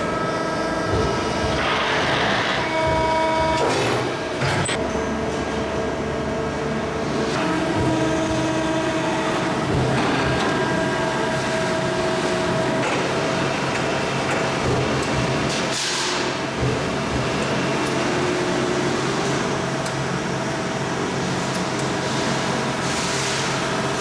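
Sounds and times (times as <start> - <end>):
industrial machinery humming and whining: 0.0 - 24.0.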